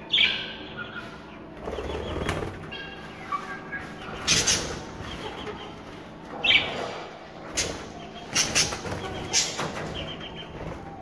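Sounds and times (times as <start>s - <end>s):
birds moving in a cage: 0.7s - 11.0s.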